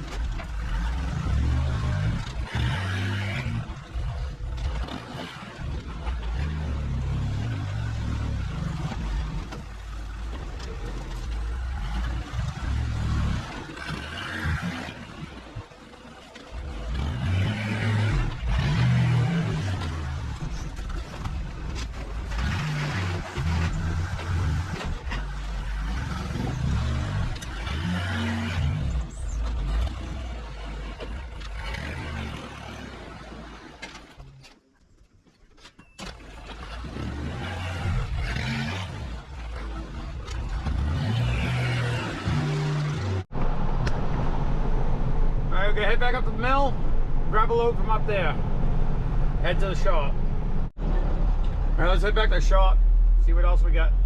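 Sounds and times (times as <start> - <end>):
engine running under load: 0.0 - 34.6, 35.9 - 54.0.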